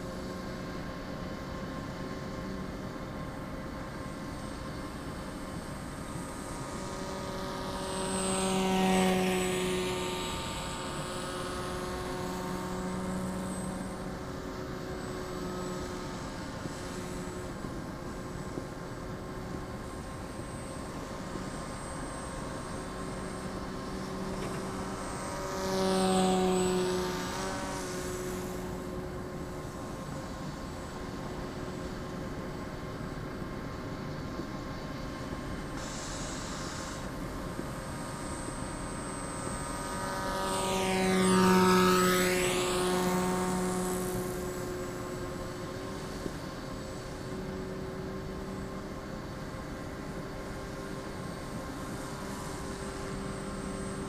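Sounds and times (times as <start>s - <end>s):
model plane motor drone: 0.0s - 54.0s.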